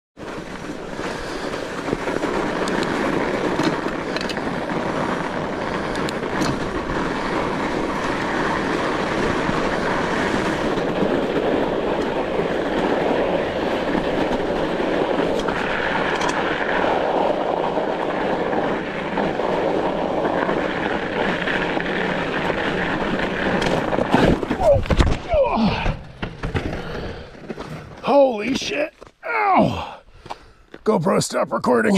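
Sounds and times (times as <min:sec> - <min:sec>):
bike clicks and rattles: 0:00.2 - 0:28.1
steady rushing noise: 0:00.2 - 0:28.9.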